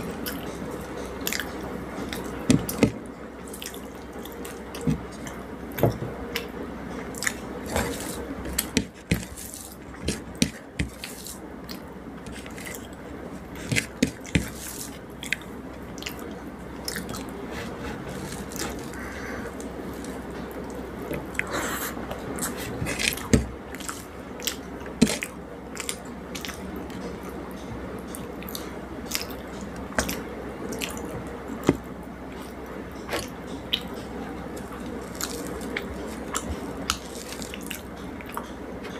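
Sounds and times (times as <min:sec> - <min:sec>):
person chewing food: 0:00.0 - 0:38.9
steady low hum: 0:00.0 - 0:38.9.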